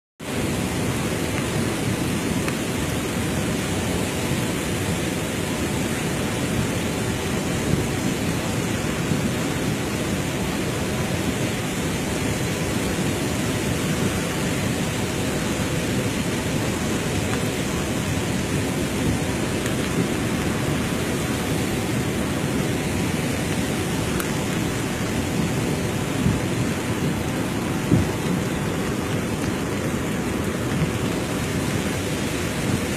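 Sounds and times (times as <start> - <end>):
river rushing: 0.2 - 32.9.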